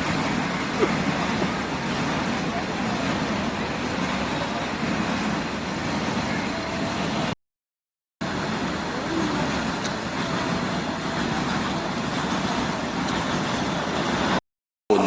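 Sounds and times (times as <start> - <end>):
road traffic rumble: 0.0 - 7.4, 8.2 - 15.0.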